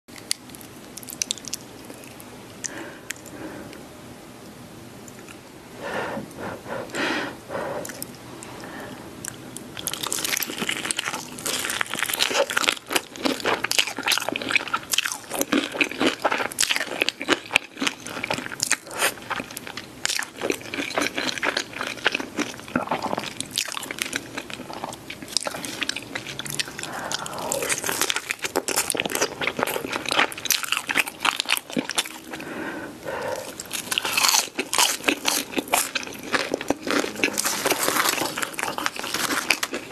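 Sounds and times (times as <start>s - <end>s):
crunchy chicken chewing: 0.2s - 3.4s, 9.2s - 39.9s.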